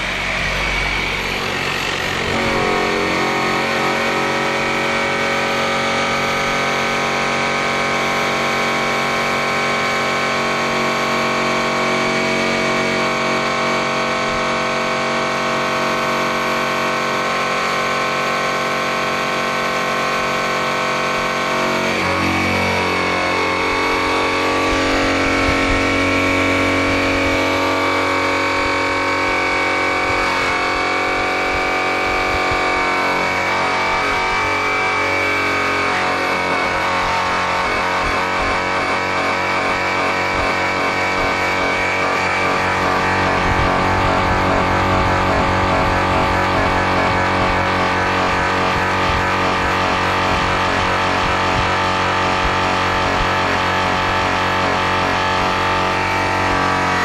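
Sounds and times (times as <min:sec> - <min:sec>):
low hum under load: 0:00.0 - 0:57.0
rotary polisher motor whine: 0:00.0 - 0:57.0.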